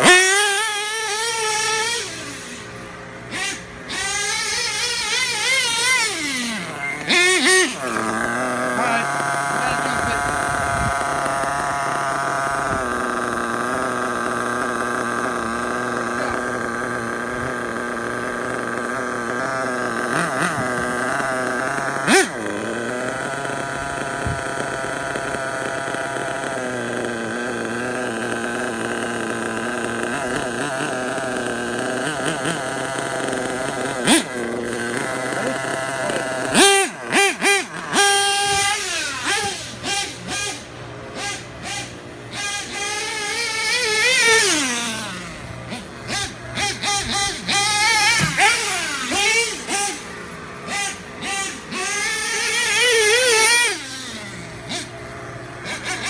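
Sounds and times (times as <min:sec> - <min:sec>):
small nitro engine revving: 0:00.0 - 0:56.0.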